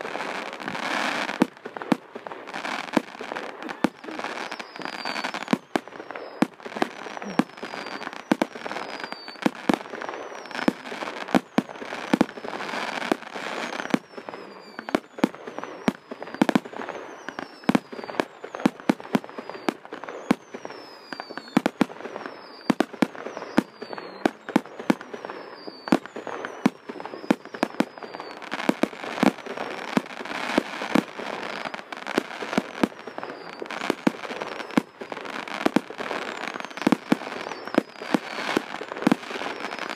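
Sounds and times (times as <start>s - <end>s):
falling firework whistles: 0.0s - 39.9s
firework bangs: 0.0s - 39.9s
firework crackling: 0.0s - 39.9s.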